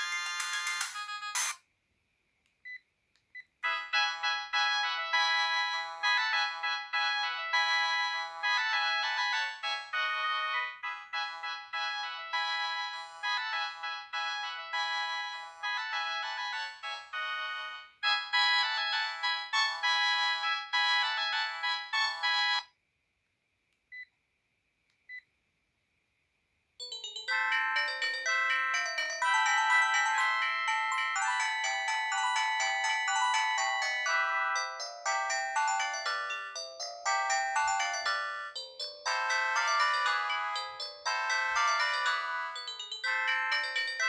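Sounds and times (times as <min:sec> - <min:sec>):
polyphonic ringtone melody: 0:00.0 - 0:01.6, 0:03.6 - 0:22.6, 0:26.8 - 0:44.0.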